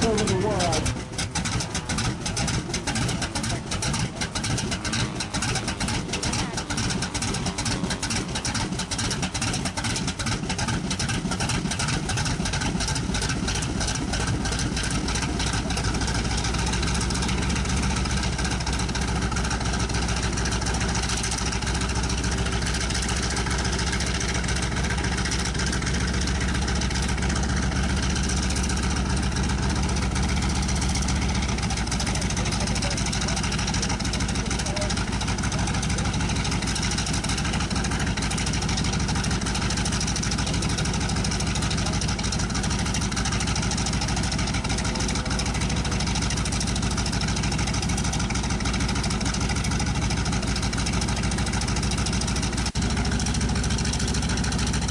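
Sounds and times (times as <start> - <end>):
radial aircraft engine running: 0.0 - 54.9.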